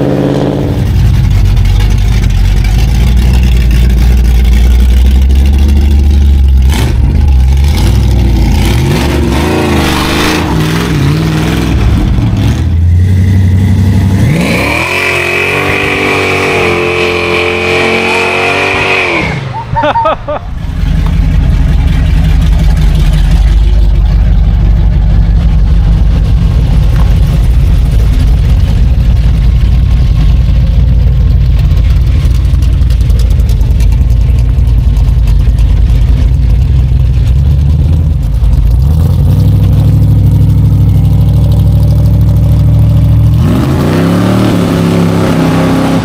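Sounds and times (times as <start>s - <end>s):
car engine rumbling and revving: 0.0s - 46.0s.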